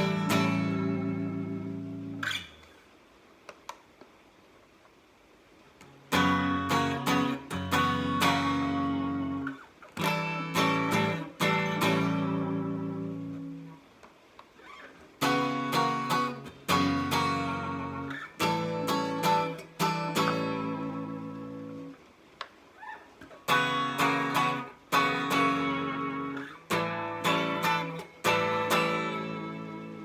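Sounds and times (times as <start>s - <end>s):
electric guitar strumming chords: 0.0s - 2.6s, 5.8s - 13.8s, 15.2s - 22.0s, 23.4s - 30.0s.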